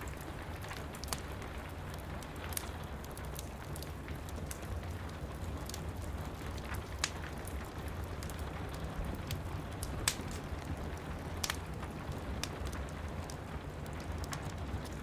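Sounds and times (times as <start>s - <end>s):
low rumble of rain: 0.0s - 15.0s
wood fire crackling and popping: 0.0s - 15.0s.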